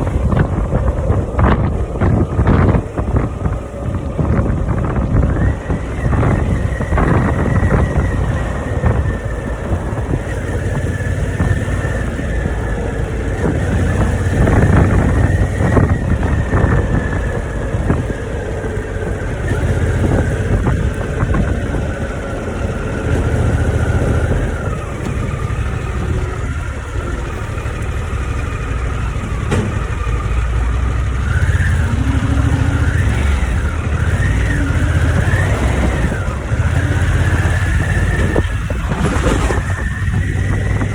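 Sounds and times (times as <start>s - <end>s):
motorcycle engine rumble: 0.0s - 40.9s.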